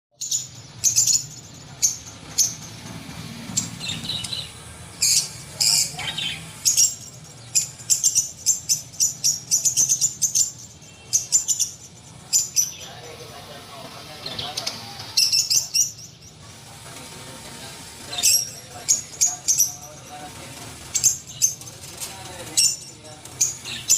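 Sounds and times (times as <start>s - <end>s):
small bird chirping: 0.2s - 13.2s, 14.2s - 23.9s.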